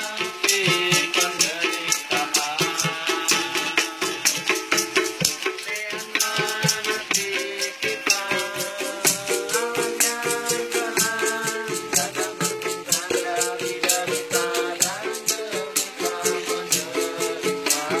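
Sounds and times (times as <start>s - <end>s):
person singing wavering melody: 0.0s - 18.0s
shaker rattling: 0.0s - 18.0s.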